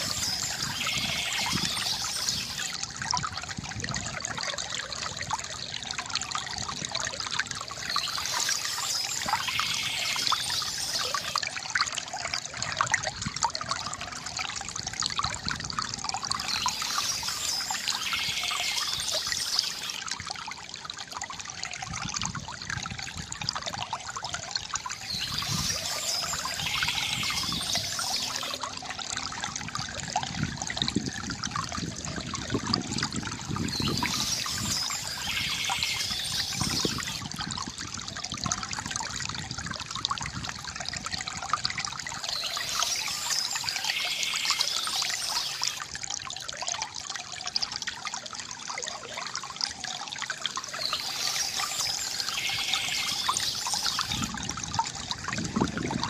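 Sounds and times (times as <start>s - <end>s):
river water gurgling over stones: 0.0s - 56.0s.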